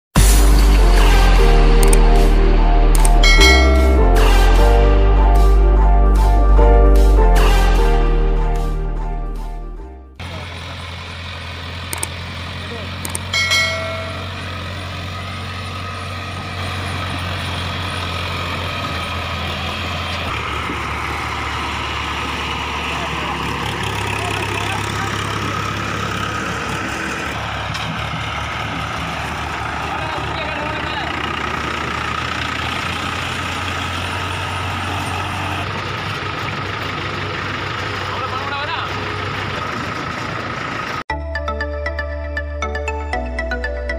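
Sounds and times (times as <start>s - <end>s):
tractor engine running: 0.2s - 7.8s, 8.8s - 43.9s.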